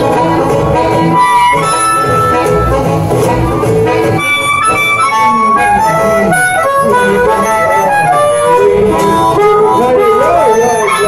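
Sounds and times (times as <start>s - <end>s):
harmonicas playing boogie-woogie: 0.0s - 11.0s
low rhythmic backing: 0.0s - 11.0s.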